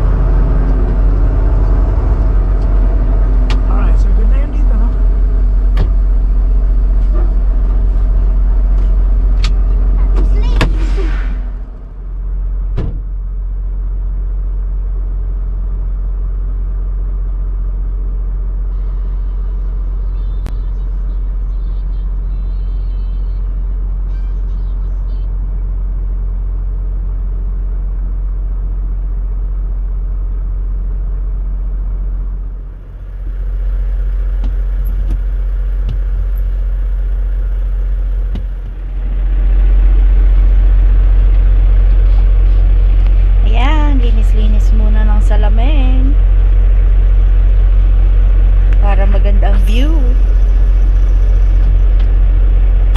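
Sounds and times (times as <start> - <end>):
truck diesel engine rumble: 0.0 - 52.9.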